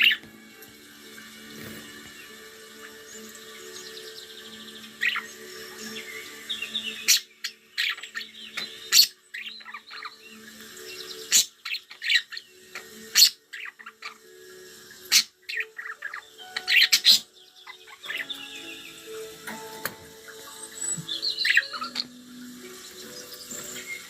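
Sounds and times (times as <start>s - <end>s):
budgerigars chirping: 0.0s - 0.3s, 1.5s - 24.0s.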